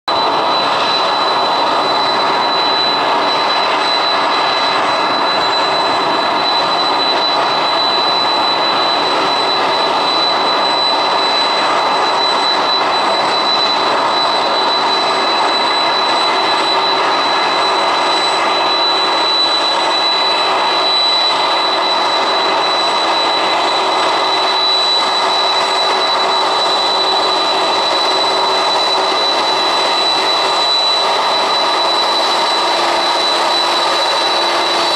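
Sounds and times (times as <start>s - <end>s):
high engine whine: 0.1s - 34.9s
jet engines rushing hum: 0.1s - 34.9s.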